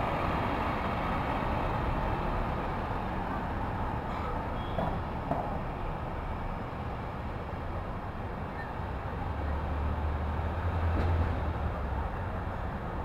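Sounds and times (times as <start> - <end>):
city traffic noise: 0.0 - 13.0.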